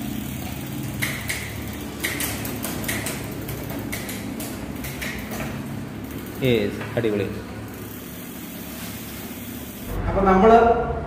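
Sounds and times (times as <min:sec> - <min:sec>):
bicycle chain whirring: 0:00.0 - 0:10.0.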